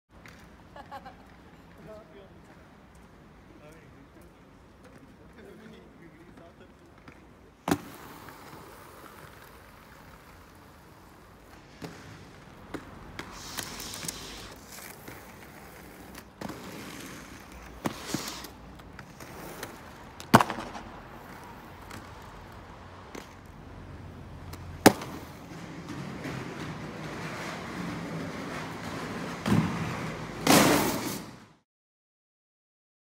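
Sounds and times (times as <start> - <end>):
inline skate clacks and knocks: 0.2 - 31.6
skates hissing rolls: 5.1 - 31.6.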